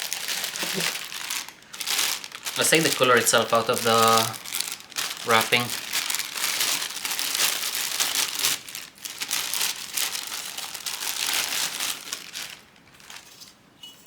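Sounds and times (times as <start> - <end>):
plastic wrapping crinkling: 0.0 - 13.6.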